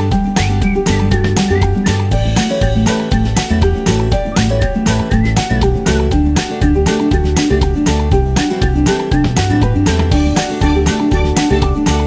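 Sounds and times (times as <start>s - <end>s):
bouncy background music: 0.0s - 12.0s.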